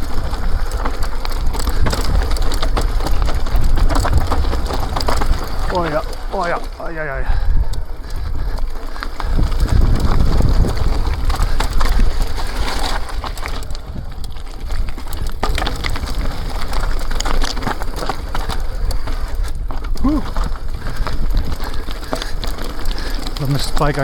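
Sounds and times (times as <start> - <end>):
bike knocking and rattling: 0.0 - 24.0
low rumble of wind: 0.0 - 24.0
tyres crunching over gravel: 0.0 - 24.0.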